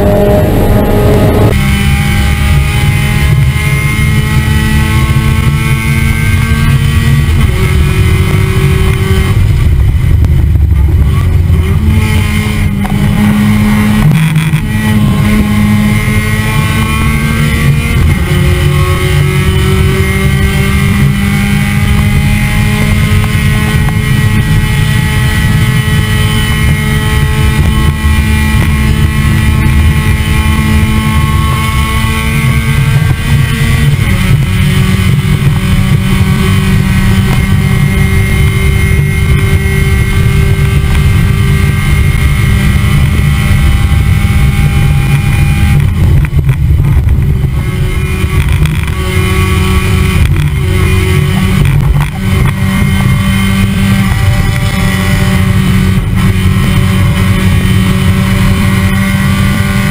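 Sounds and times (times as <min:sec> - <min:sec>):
race car engine accelerating: 0:00.0 - 0:59.9.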